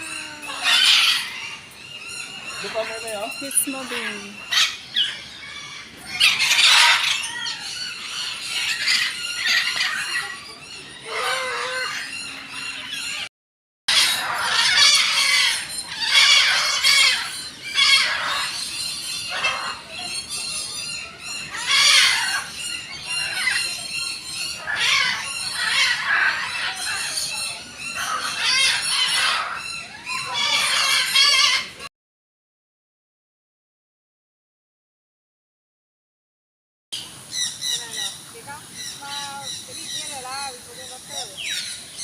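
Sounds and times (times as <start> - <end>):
birds screeching: 0.0 - 13.3, 13.9 - 31.9, 37.0 - 42.0.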